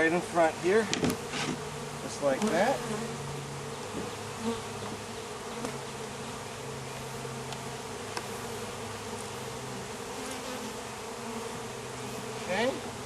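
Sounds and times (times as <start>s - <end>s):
swarm of bees buzzing: 0.0s - 13.0s.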